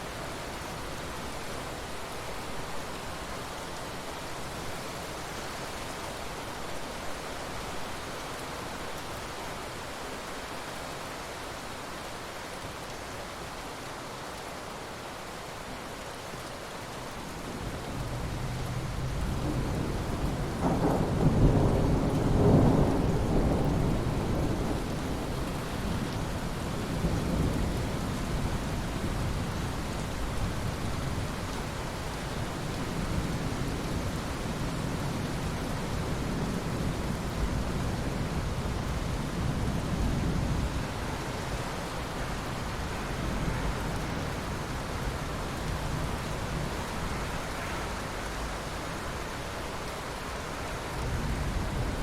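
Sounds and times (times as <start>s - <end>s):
steady rainfall: 0.0s - 52.0s.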